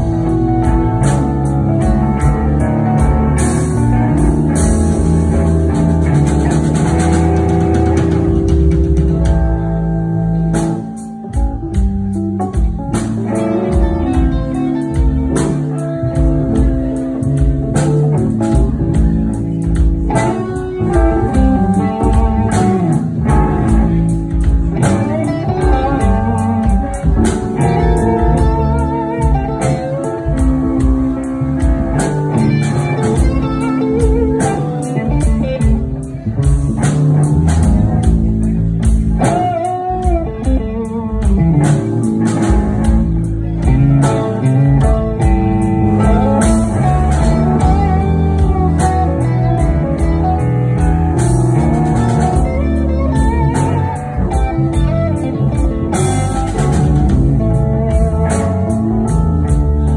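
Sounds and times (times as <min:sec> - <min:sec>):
bass guitar: 0:00.0 - 0:59.9
drums: 0:00.0 - 0:59.9
electric guitars: 0:00.0 - 0:59.9
keyboard: 0:00.0 - 0:59.9.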